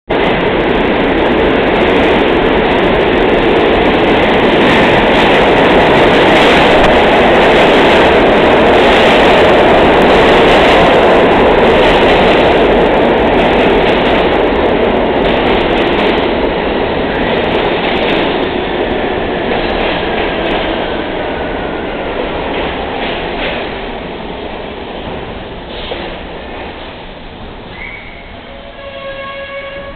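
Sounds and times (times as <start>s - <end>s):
subway train wheels rumbling: 0.1s - 29.9s.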